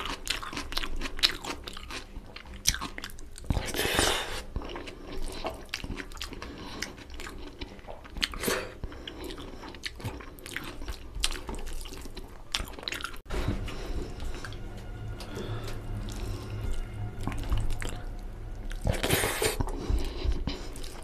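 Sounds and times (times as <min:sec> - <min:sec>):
wet chewing and lip-smacking: 0:00.0 - 0:14.6, 0:15.3 - 0:21.0.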